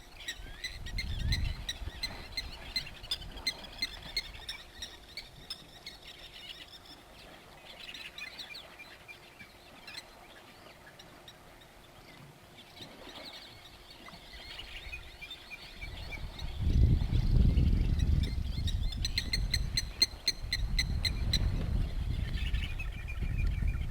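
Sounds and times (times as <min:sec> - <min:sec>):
small birds chirping: 0:00.1 - 0:23.9.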